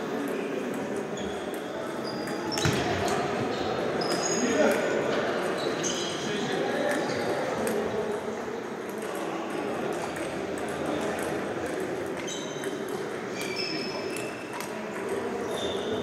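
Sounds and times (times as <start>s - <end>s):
murmur in large hall: 0.0s - 16.0s.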